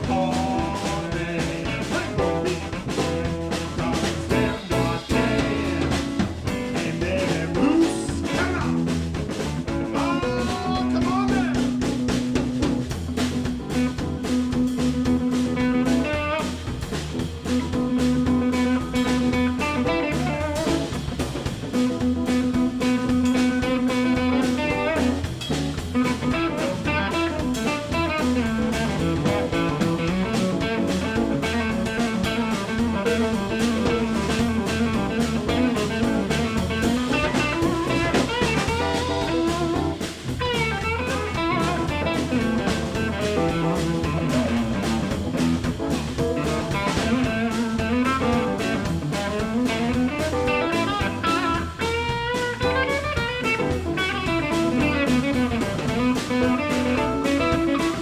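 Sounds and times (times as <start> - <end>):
electric blues band playing: 0.0 - 58.0
electric guitar bending notes: 0.0 - 58.0.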